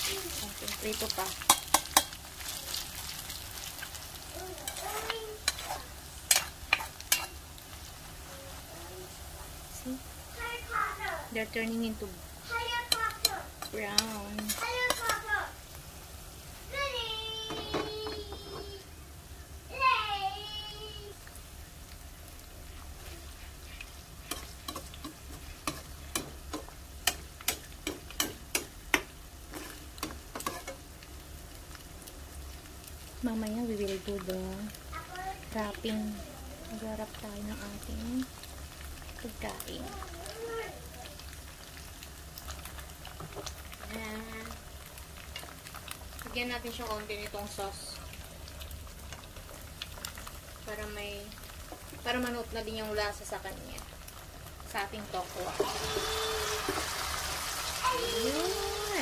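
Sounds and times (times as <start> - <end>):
tofu sizzling in oil: 0.0 - 59.0.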